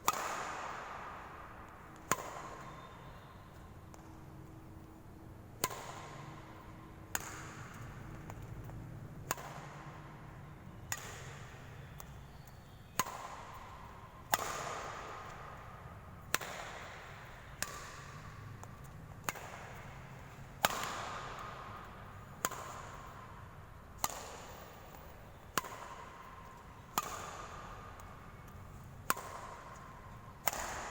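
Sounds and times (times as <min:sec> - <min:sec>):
racket striking shuttlecock: 0:00.0 - 0:30.9.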